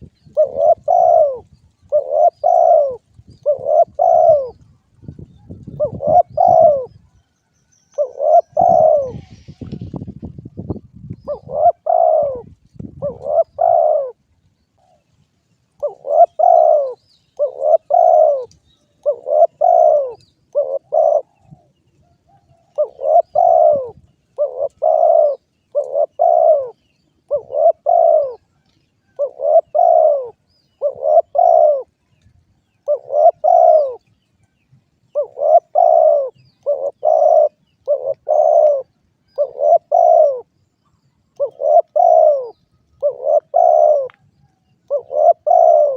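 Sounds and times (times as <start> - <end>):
dove cooing: 0.0 - 7.2, 7.9 - 10.0, 10.6 - 14.2, 15.8 - 32.0, 32.6 - 34.1, 35.1 - 45.9.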